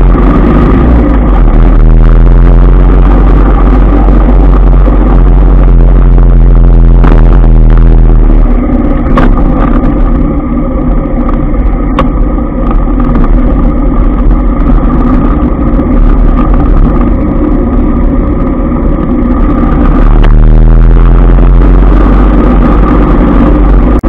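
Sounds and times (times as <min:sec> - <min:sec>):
motorbike engine running: 0:00.0 - 0:24.0
wind rumble on microphone: 0:00.0 - 0:24.0.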